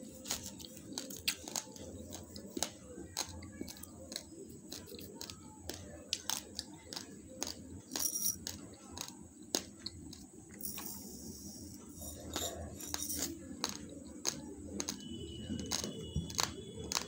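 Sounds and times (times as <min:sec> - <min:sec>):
rice grains crunched between teeth: 0:00.2 - 0:11.1, 0:12.1 - 0:15.0.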